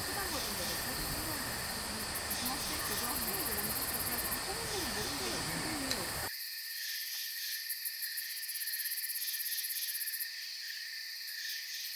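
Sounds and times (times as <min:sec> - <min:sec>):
crickets and insects chirping: 0:00.0 - 0:11.9.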